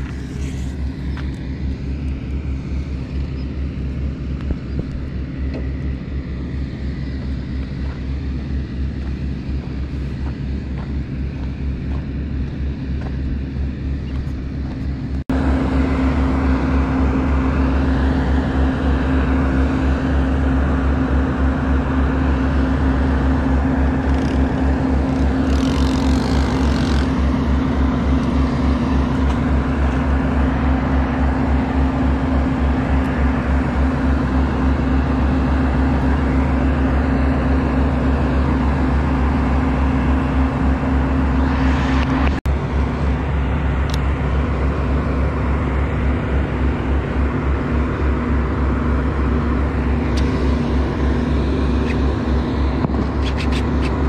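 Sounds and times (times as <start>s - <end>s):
engine droning steadily: 0.0s - 54.0s.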